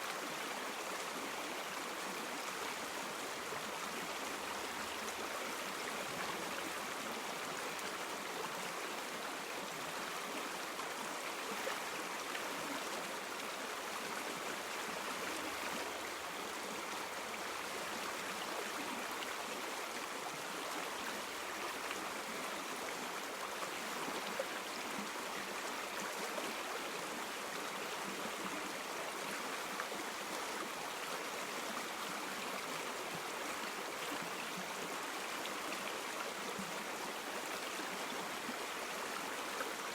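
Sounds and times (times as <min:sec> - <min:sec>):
river water over stones: 0:00.0 - 0:39.9.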